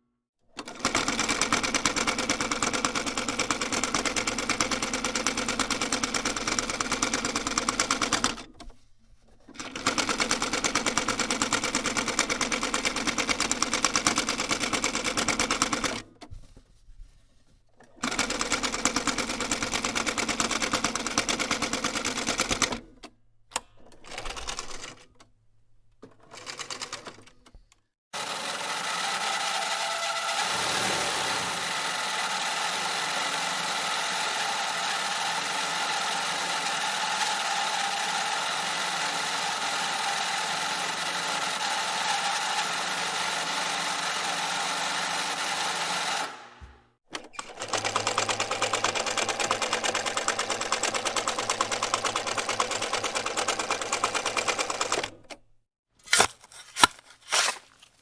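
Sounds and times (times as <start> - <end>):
sewing machine stitching: 0.5 - 8.7, 9.3 - 16.2, 17.8 - 23.0, 28.2 - 55.4.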